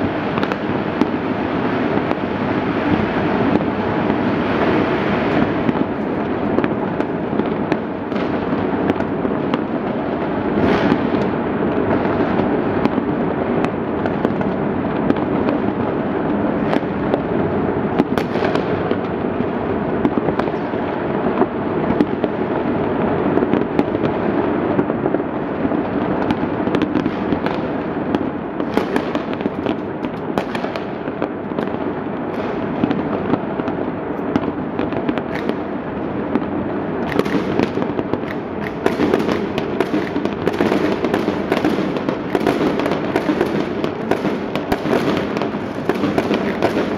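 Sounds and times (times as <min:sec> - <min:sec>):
fireworks popping and banging: 0:00.0 - 0:46.9.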